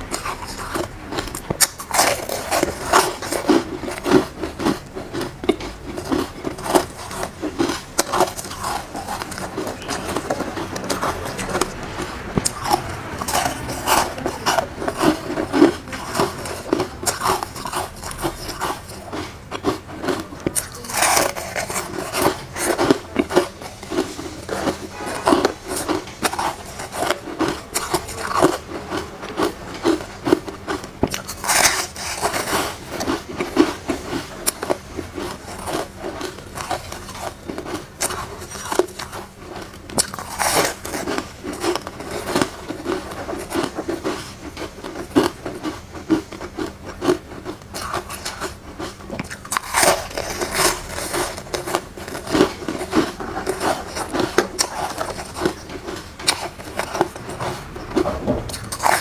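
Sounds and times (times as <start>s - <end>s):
crunchy foam ice being chewed: 0.0s - 59.0s.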